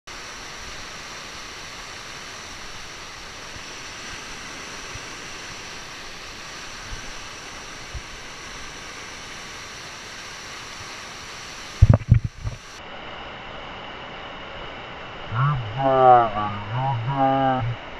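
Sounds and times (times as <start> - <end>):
whitewater rushing: 0.1 - 12.8, 15.0 - 17.9.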